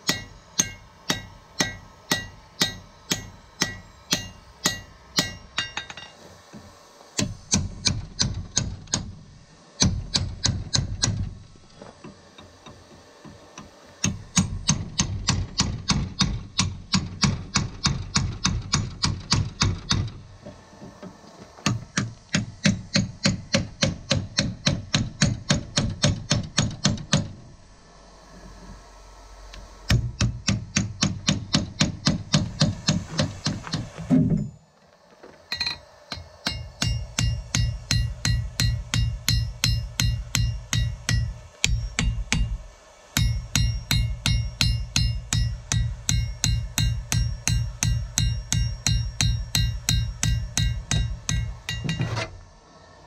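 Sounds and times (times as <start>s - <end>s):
hammer striking steel: 0.0s - 6.2s, 7.2s - 9.2s, 9.8s - 11.2s, 13.6s - 20.1s, 21.6s - 27.3s, 29.9s - 34.6s, 35.5s - 52.3s.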